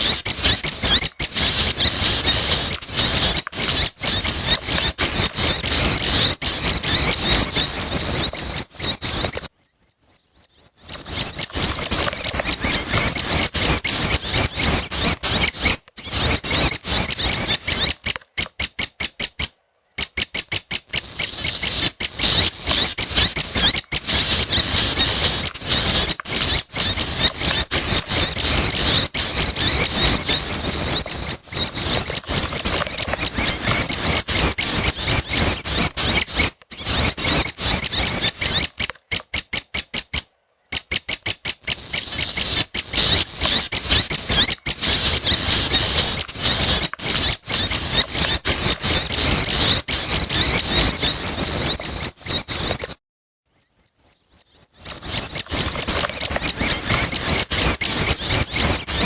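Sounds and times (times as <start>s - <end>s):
young birds chattering calls: 0.0s - 53.0s, 53.8s - 59.0s.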